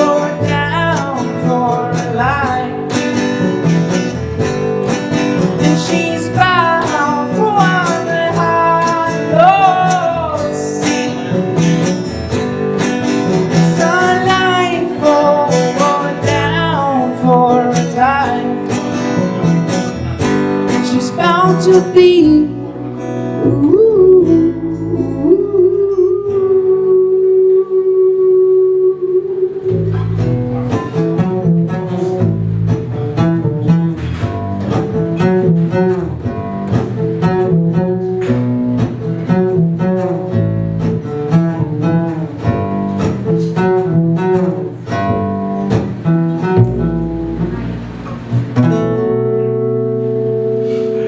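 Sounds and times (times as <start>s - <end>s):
fingerpicked guitar: 0.0s - 51.0s.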